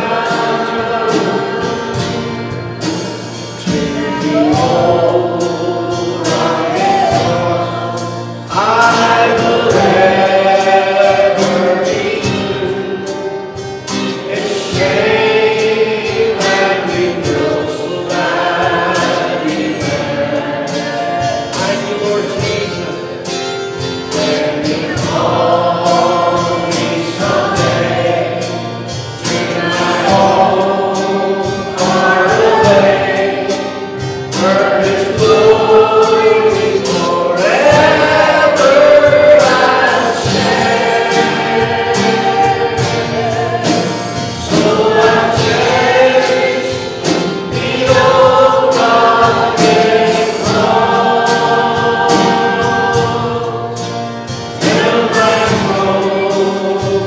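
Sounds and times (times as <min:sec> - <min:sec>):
choir singing a hymn: 0:00.0 - 0:57.0
instrumental accompaniment with beat: 0:00.0 - 0:57.0.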